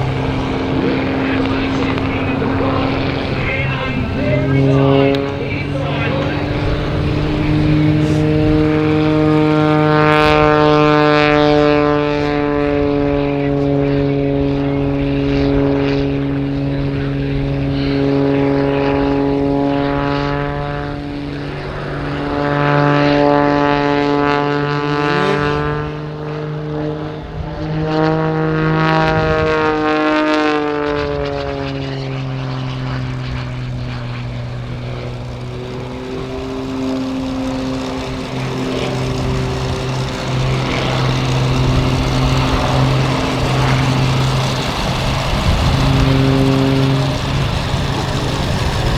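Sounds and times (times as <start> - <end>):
biplane engine and propeller droning: 0.0 - 48.9.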